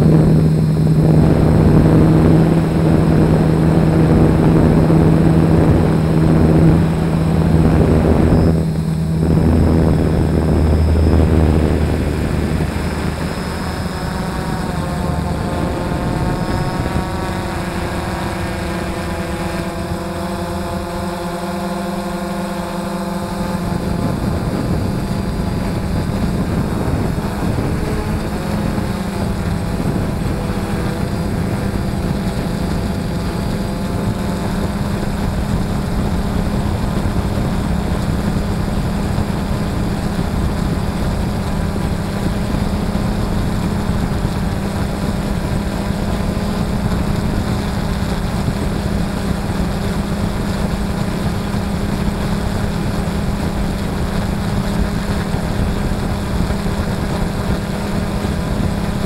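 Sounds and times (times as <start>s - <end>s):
drone propellers whirring: 0.0s - 59.0s.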